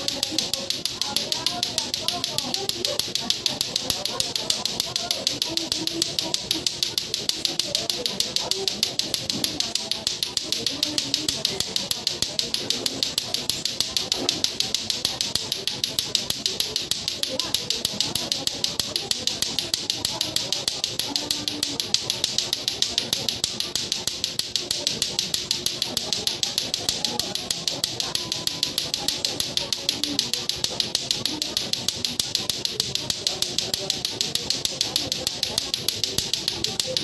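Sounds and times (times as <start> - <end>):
plastic clacker balls clacking: 0.0 - 37.0.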